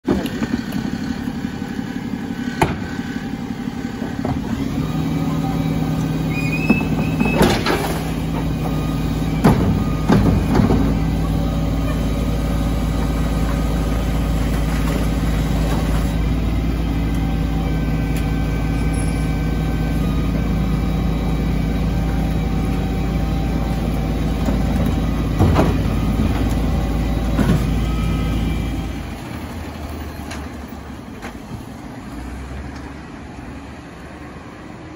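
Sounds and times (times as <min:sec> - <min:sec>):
engine and hydraulic hum: 0:00.0 - 0:34.9.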